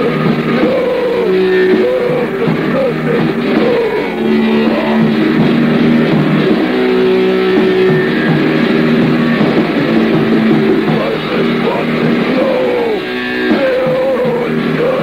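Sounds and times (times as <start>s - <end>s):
distorted electric guitar: 0.0s - 15.0s
drum kit: 0.0s - 15.0s.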